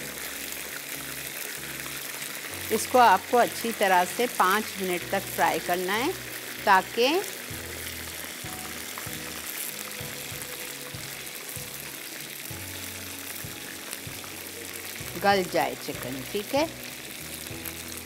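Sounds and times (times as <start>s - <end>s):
chicken sizzling in frying pan: 0.0s - 18.0s
soft background music: 0.0s - 18.0s
spatula turning food in pan: 0.0s - 18.0s.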